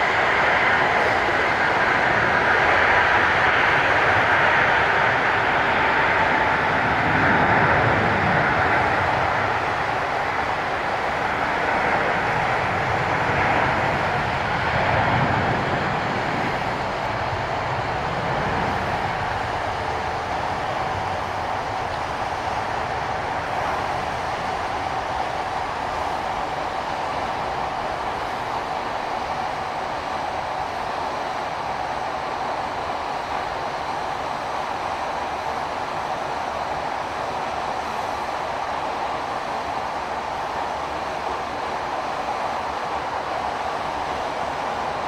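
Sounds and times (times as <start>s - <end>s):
jet engines roaring: 0.0s - 38.6s.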